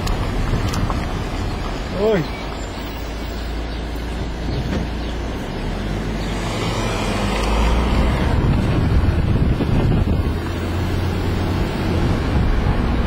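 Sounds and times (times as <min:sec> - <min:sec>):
wind rushing over microphone: 0:00.0 - 0:02.4, 0:04.1 - 0:13.0
road and engine rumble: 0:00.0 - 0:13.0.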